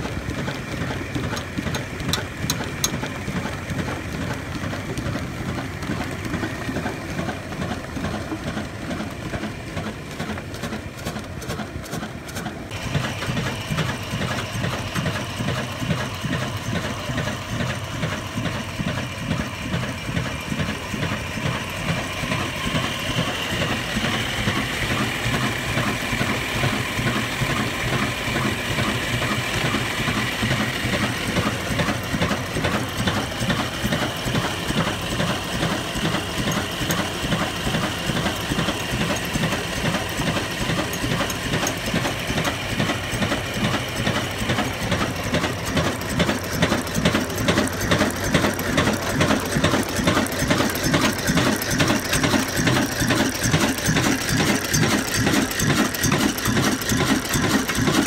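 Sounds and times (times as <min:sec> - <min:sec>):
stationary diesel engine running: 0:00.0 - 0:58.0.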